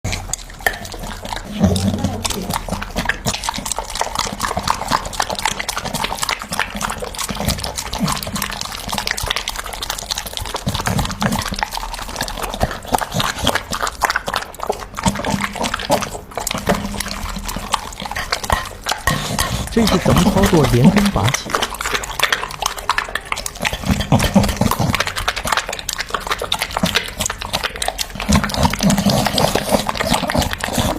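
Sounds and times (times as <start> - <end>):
dog chewing and crunching: 0.0 - 30.9.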